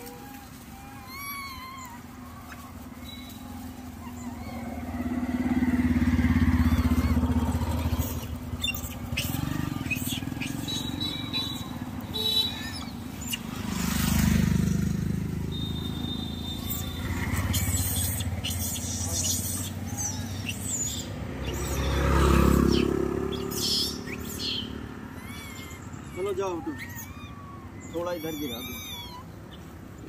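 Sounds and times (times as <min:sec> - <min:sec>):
birds chirping: 0:00.0 - 0:30.0
vehicles passing: 0:00.0 - 0:30.0.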